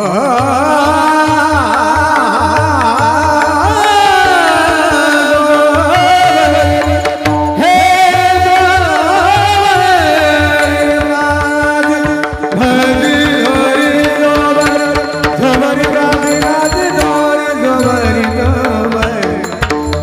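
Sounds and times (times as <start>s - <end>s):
person singing: 0.0s - 19.9s
held accompanying notes: 1.2s - 20.0s.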